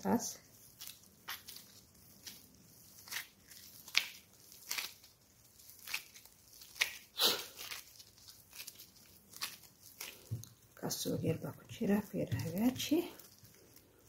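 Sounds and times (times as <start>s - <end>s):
hands kneading sticky dough: 0.0s - 14.0s.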